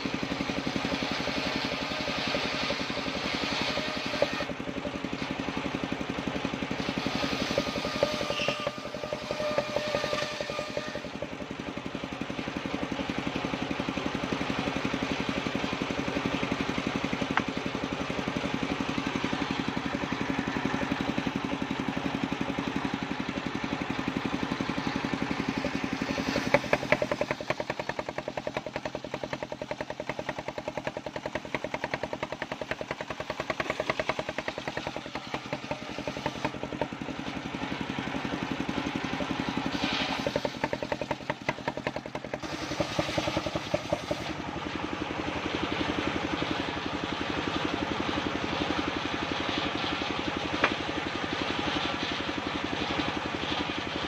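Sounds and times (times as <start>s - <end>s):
engine-driven circular saw running: 0.0s - 54.0s.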